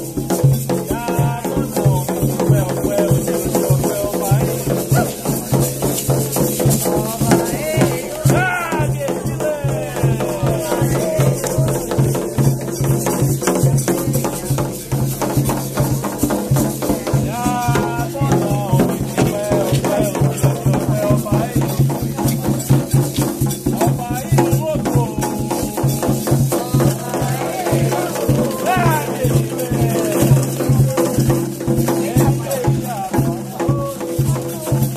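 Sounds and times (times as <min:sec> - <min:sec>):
percussion music with rattles and drums: 0:00.0 - 0:34.9.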